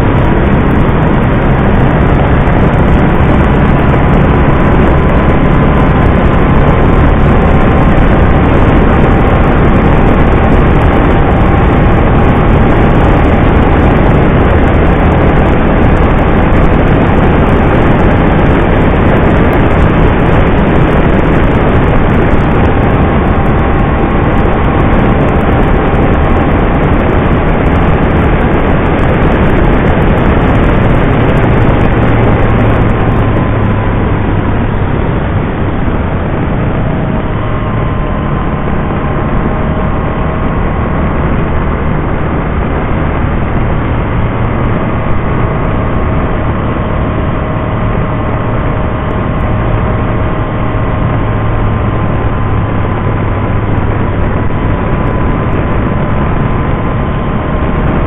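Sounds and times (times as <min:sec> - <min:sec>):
motorcycle engine hum: 0:00.0 - 0:58.0
wind and road noise: 0:00.0 - 0:58.0.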